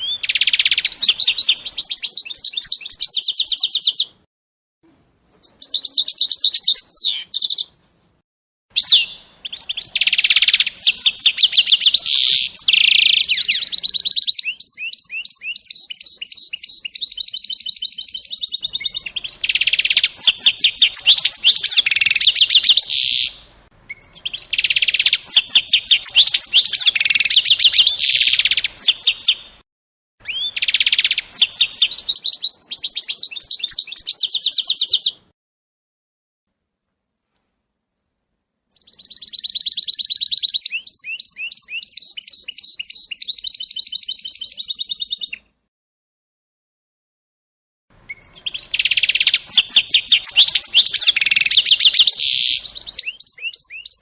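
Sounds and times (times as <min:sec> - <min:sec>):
songbird trilling and whistling: 0:00.0 - 0:04.2, 0:05.3 - 0:07.7, 0:08.8 - 0:29.6, 0:30.2 - 0:35.2, 0:38.7 - 0:45.5, 0:48.1 - 0:54.0.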